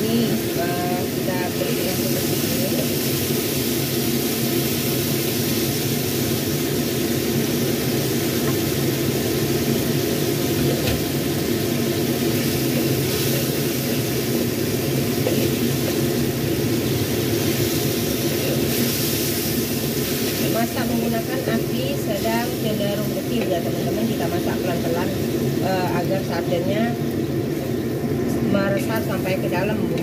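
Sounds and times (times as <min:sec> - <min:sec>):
gas stove roaring: 0:00.0 - 0:30.0
kitchen ventilation hum: 0:00.0 - 0:30.0.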